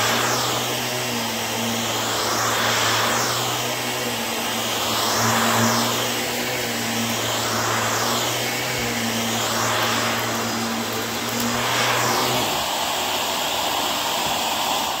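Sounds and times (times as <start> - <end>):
low hum: 0.0 - 12.6
upright vacuum cleaner running: 0.0 - 15.0.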